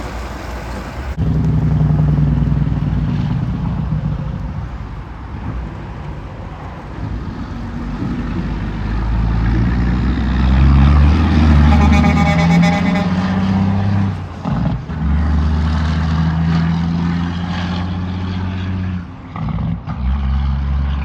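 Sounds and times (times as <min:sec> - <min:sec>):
truck engine passing: 0:00.0 - 0:21.0
vehicle approaching: 0:00.0 - 0:21.0.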